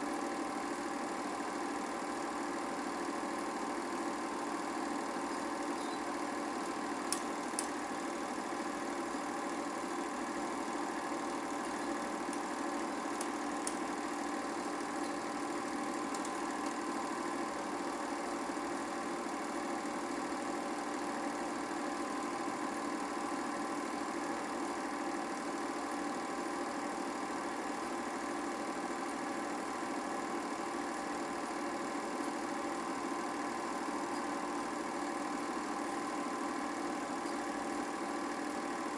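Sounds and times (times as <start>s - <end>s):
film projector running: 0.0s - 38.9s.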